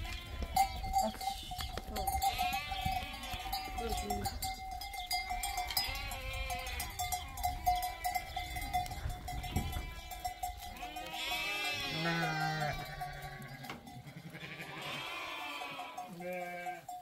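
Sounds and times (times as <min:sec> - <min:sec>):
sheep bleating: 0:00.0 - 0:04.4, 0:05.4 - 0:17.0.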